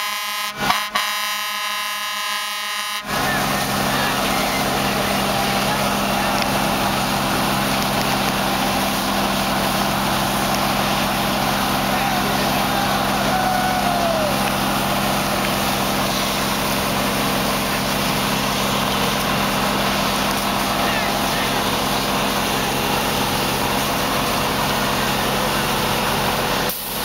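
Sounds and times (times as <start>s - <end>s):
diesel engines running: 0.0s - 27.0s
hose streams spraying water: 0.0s - 27.0s.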